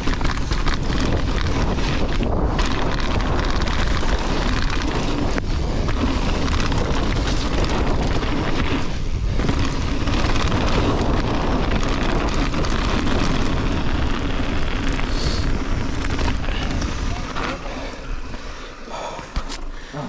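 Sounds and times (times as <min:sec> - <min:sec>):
tyres crunching over stones: 0:00.0 - 0:19.8
wind rushing over microphone: 0:00.0 - 0:19.8
bike rattling: 0:00.0 - 0:20.0.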